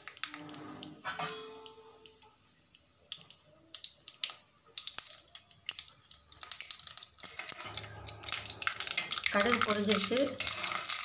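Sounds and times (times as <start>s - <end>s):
mustard seeds popping in oil: 0.0s - 0.5s, 1.4s - 11.0s
low frying hum: 0.1s - 11.0s.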